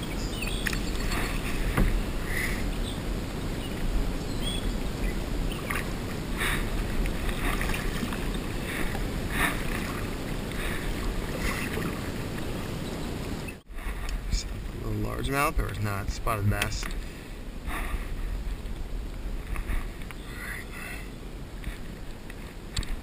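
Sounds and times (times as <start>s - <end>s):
paddle splashing in water: 0.0s - 12.8s, 16.7s - 23.0s
steady low rumble: 0.0s - 23.0s.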